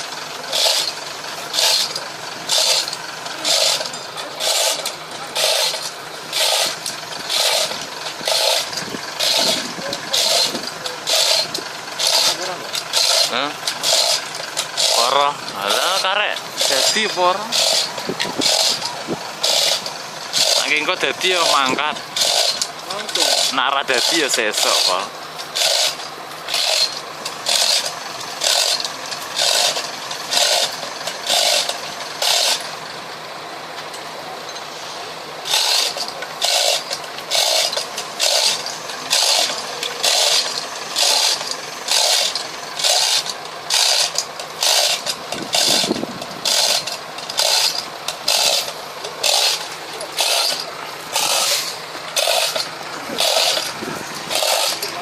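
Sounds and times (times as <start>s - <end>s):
rhythmic scraping strokes: 0.0s - 33.0s, 33.7s - 55.0s.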